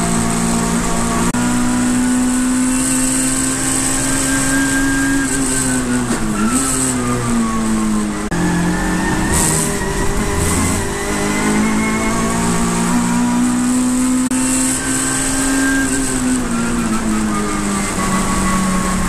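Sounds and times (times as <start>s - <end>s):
racing car engine revving: 0.0s - 19.0s.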